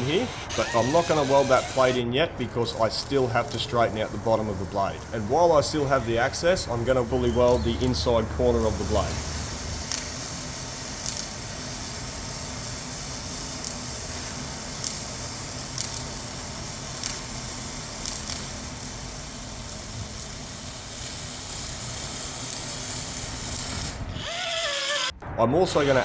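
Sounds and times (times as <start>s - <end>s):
arc welding hiss: 0.0s - 25.1s.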